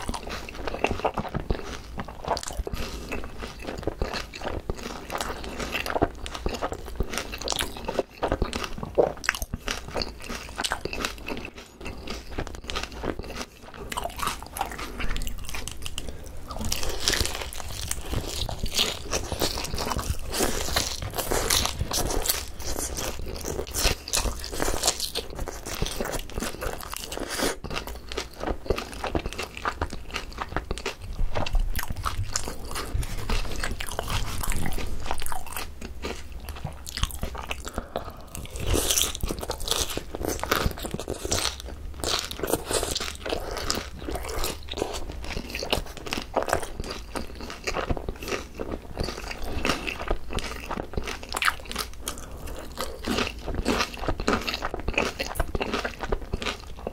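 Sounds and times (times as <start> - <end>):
crunching and chewing fried chicken: 0.0 - 56.9.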